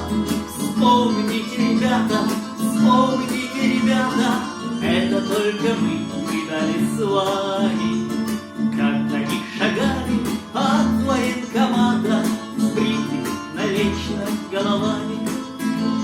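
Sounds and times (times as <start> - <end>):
steady beat: 0.0 - 8.6, 9.2 - 15.8
bass line: 0.0 - 16.0
strummed acoustic guitar: 0.0 - 16.0.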